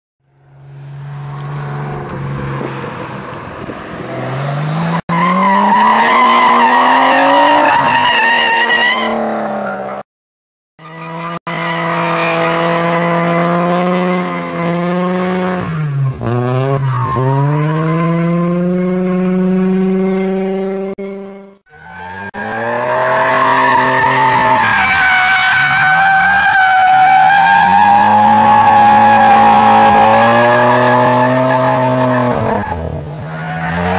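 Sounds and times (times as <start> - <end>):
car engine at high revs: 0.3 - 8.0, 10.8 - 26.2, 27.0 - 33.9.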